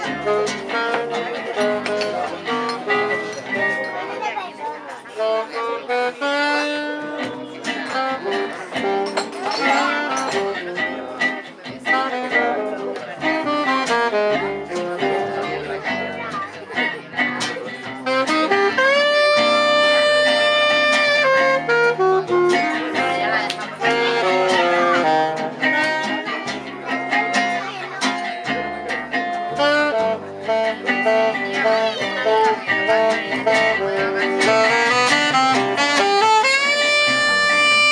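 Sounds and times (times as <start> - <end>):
jazz band playing live: 0.0 - 37.9
rhythmic guitar accompaniment: 0.0 - 37.9.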